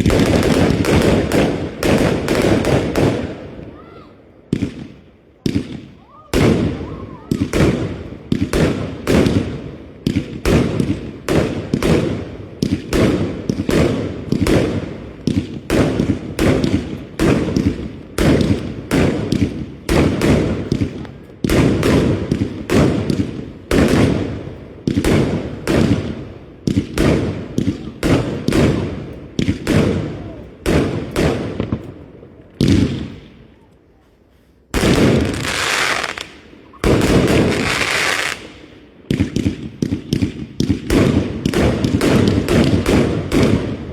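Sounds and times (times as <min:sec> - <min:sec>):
firework bangs: 0:00.0 - 0:33.6, 0:34.7 - 0:43.9.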